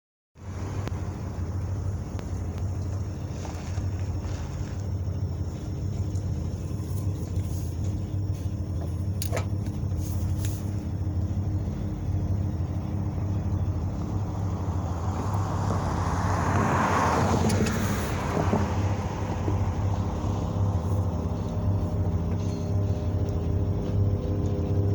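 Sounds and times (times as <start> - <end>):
diesel locomotive engines droning: 0.4 - 24.9.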